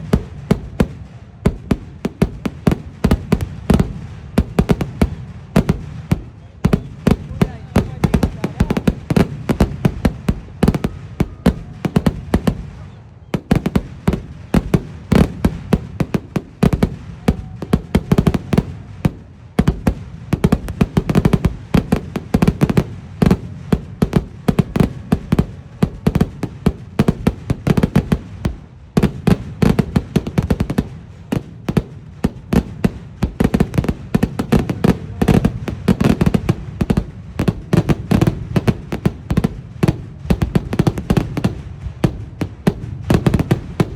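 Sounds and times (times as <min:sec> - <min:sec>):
firecracker bangs: 0:00.0 - 0:43.9.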